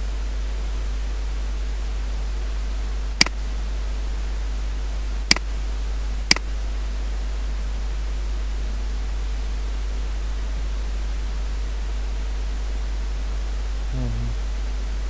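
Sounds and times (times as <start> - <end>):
low electrical hum: 0.0 - 15.0
steady hiss: 0.0 - 15.0.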